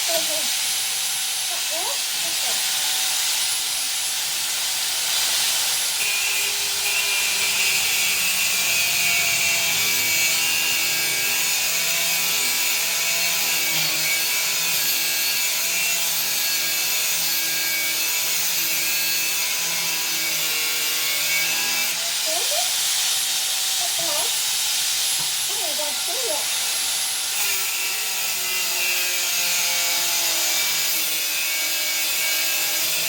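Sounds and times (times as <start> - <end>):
angle grinder cutting steel: 0.0 - 33.0.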